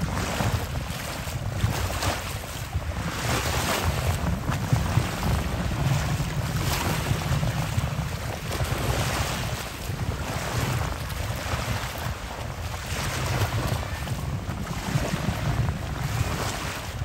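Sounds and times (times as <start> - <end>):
small waves washing on shore: 0.0 - 17.0
wind buffeting microphone: 0.0 - 17.0.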